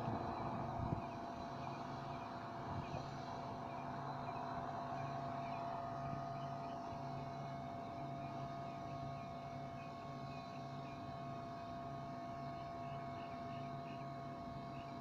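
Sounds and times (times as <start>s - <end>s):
faint pulsing low hum: 0.0s - 15.0s.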